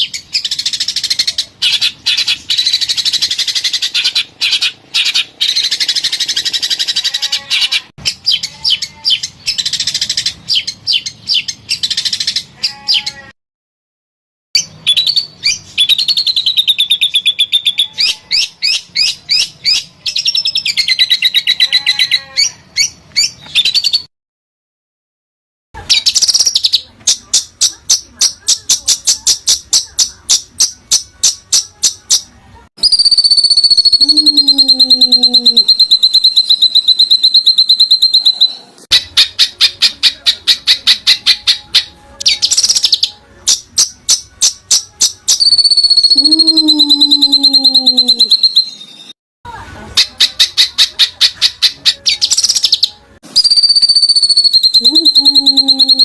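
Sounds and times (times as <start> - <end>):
songbird singing: 0.0 - 13.3, 14.6 - 24.1, 25.9 - 49.2, 50.0 - 56.0.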